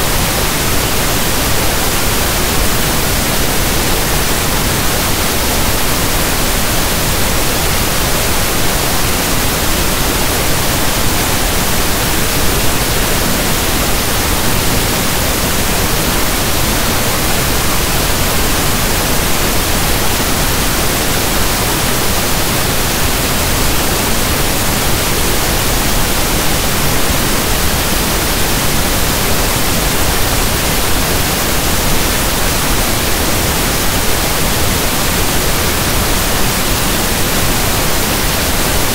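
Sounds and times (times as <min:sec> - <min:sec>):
soft static hiss: 0:00.0 - 0:38.9.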